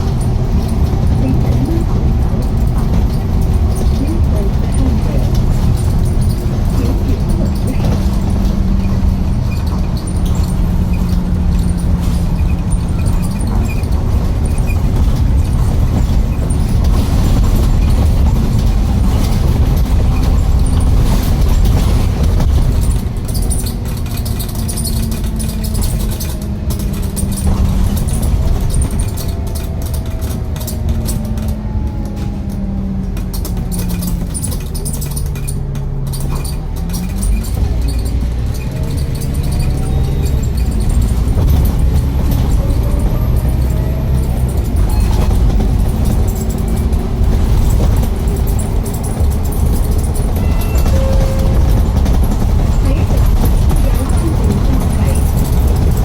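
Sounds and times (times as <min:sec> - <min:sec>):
heavy diesel engine running: 0:00.0 - 0:56.0
rapid clattering ticks: 0:00.0 - 0:56.0.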